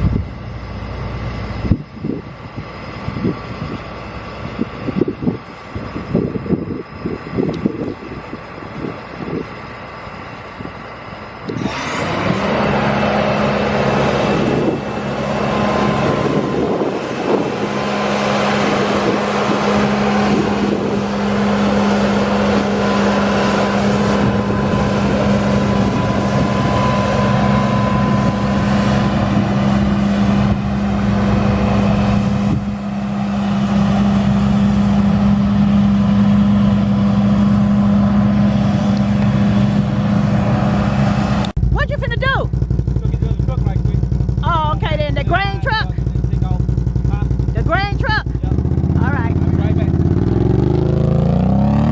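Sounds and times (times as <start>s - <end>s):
heavy hum: 0.0s - 51.8s
large vehicle engine running: 0.0s - 51.9s.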